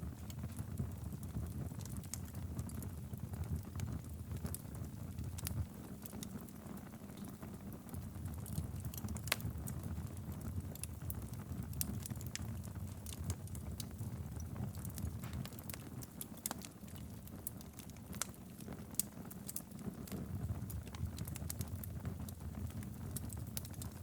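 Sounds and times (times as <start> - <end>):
fire crackles and pops: 0.0 - 24.0
low rumble of flames: 0.0 - 24.0.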